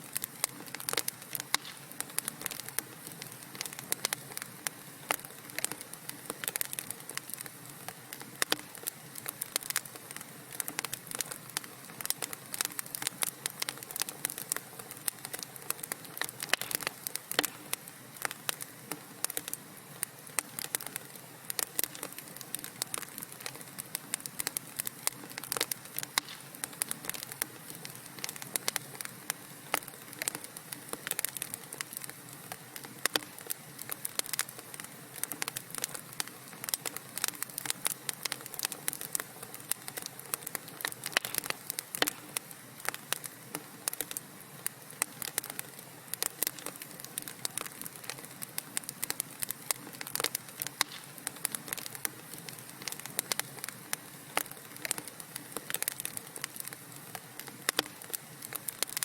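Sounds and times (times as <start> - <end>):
soft steady hiss: 0.0 - 59.0
wood fire crackling: 0.0 - 59.0.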